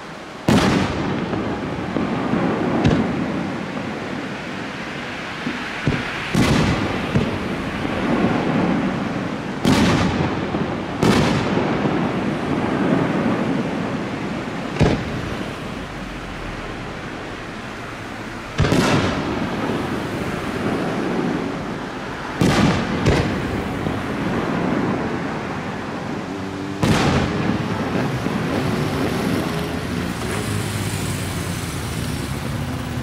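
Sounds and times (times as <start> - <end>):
firework shells booming: 0.4 - 4.7, 5.4 - 26.2, 26.8 - 28.7.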